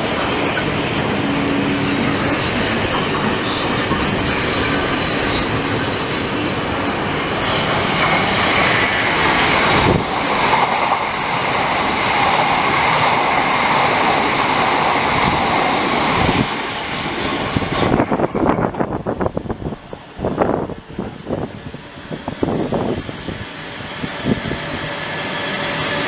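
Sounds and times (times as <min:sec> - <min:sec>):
train rushing past on rails: 0:00.0 - 0:26.0.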